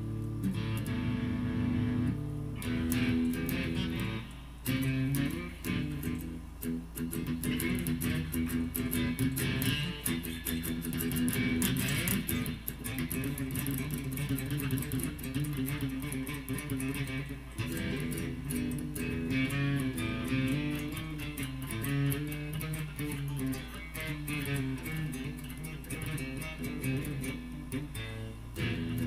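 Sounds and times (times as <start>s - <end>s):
electric guitar playing: 0.0s - 29.0s
steady low hum: 0.0s - 29.0s.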